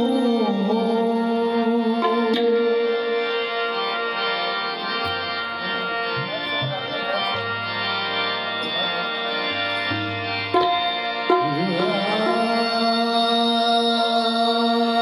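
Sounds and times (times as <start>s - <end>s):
harmoniums playing chords: 0.0s - 15.0s.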